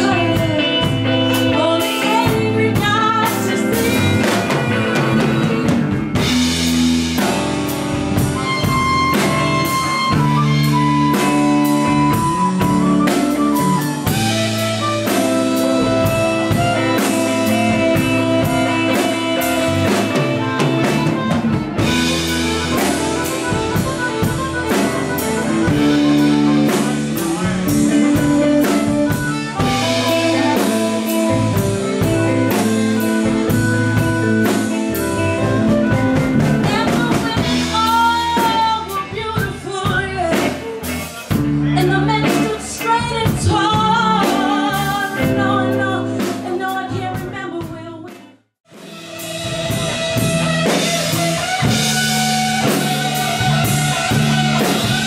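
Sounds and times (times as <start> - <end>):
person singing: 0.0 - 6.3, 8.4 - 48.3
harmonica lead: 0.0 - 42.8, 48.7 - 55.0
electric bass: 0.0 - 47.4, 48.7 - 55.0
drum kit: 0.0 - 55.0.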